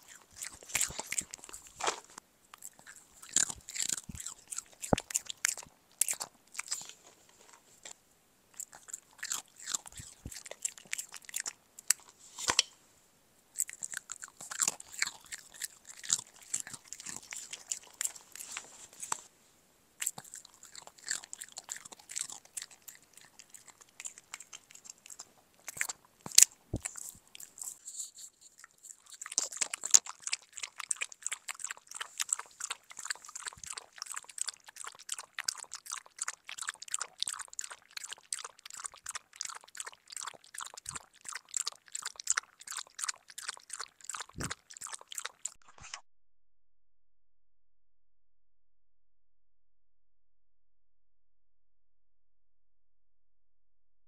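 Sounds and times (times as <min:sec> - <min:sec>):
dog licking and lip-smacking: 0:00.0 - 0:08.0, 0:08.6 - 0:12.2, 0:13.6 - 0:19.3, 0:20.0 - 0:46.0.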